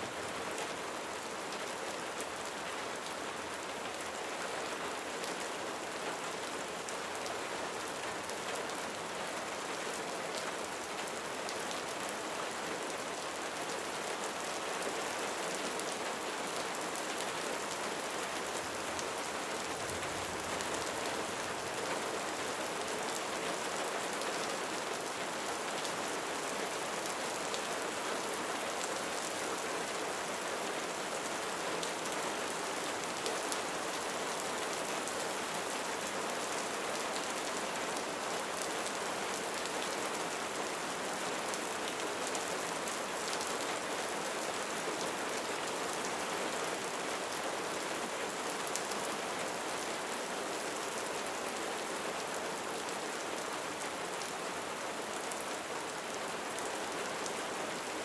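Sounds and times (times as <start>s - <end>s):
rain on a roof: 0.0s - 58.0s.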